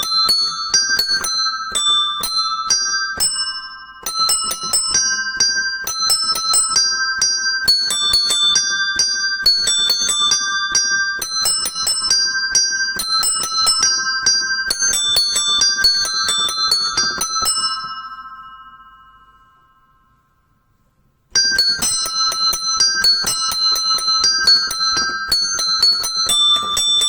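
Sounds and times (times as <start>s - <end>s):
small bells chiming rapidly: 0.0s - 19.8s, 21.4s - 27.0s.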